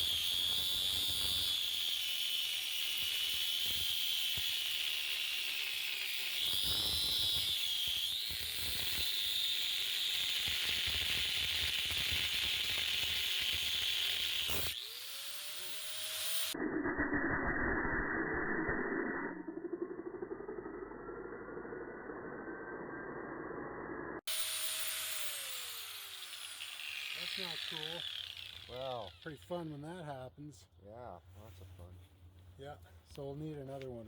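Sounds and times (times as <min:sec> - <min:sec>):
angle grinder cutting steel: 0:00.0 - 0:30.0.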